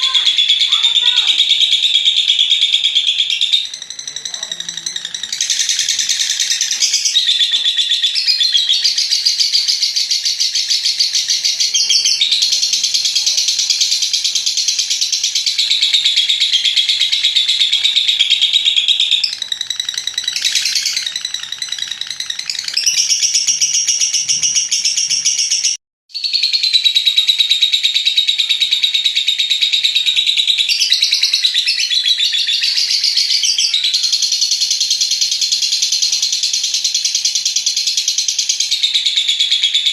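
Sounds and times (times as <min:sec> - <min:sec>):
bird chattering trill: 0:00.0 - 0:39.9.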